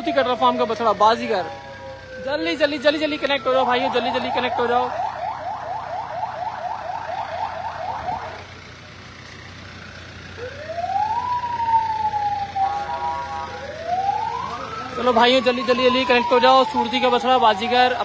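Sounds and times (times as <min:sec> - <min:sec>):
electronic siren yelp and wail: 0:00.0 - 0:08.4, 0:10.4 - 0:18.0.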